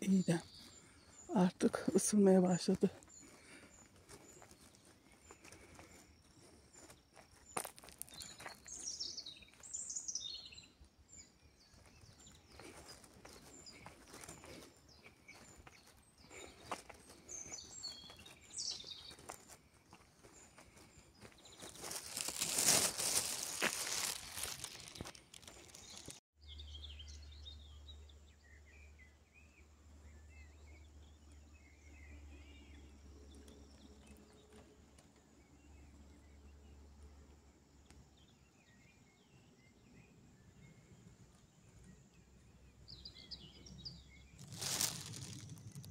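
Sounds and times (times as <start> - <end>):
faint birdsong: 0.0 - 45.9
songbird chirping: 0.0 - 45.9.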